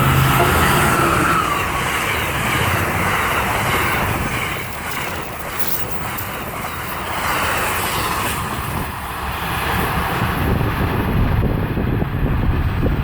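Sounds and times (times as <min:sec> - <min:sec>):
steady rushing noise: 0:00.0 - 0:13.0
wind buffeting microphone: 0:00.0 - 0:13.0.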